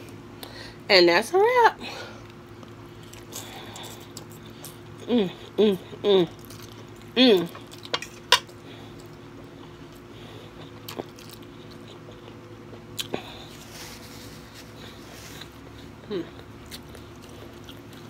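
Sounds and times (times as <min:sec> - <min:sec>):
person chewing food: 0:02.2 - 0:18.0.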